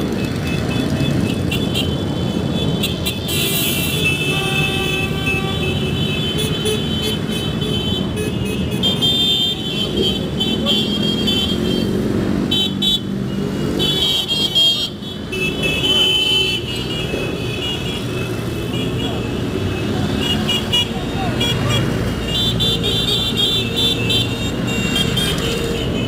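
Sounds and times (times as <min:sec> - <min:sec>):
motorcycle engines rumbling: 0:00.0 - 0:26.0
horns sounding: 0:00.4 - 0:13.1, 0:13.8 - 0:26.0.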